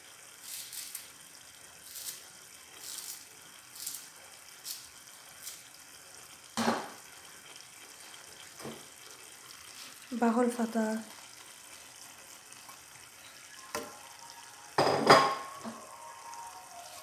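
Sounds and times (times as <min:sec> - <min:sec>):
food sputtering in a pot: 0:00.0 - 0:17.0.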